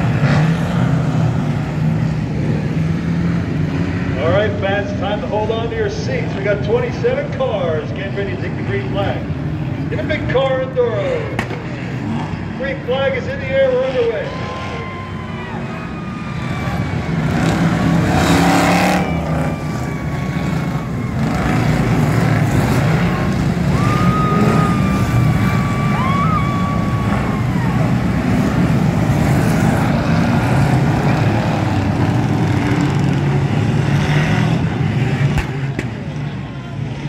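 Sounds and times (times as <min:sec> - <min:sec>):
stock car engines racing: 0:00.0 - 0:37.0.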